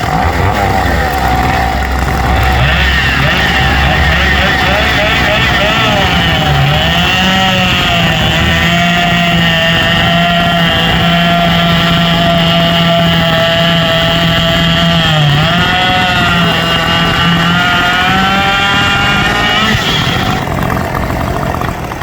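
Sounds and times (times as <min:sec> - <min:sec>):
chainsaw running flat out: 0:00.0 - 0:22.0.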